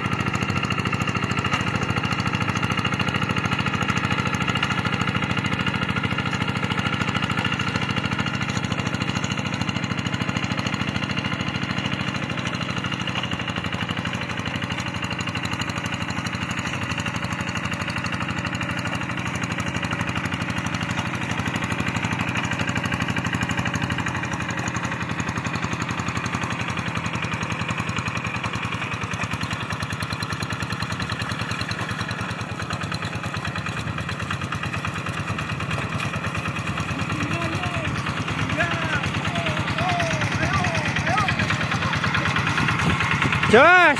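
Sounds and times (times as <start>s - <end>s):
diesel hand tractor engine running: 0.0s - 43.9s.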